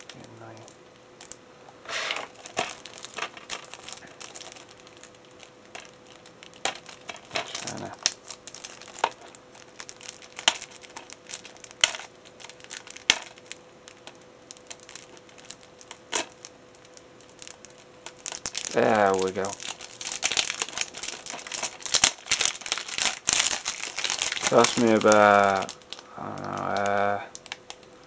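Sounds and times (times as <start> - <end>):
plastic wrapping crinkling and tearing: 0.0 - 27.9.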